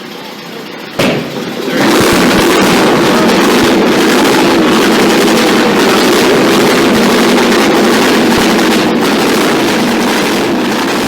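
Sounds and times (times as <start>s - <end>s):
motorcycle engine running hard: 0.0s - 11.0s
sharp crack: 1.0s - 11.0s.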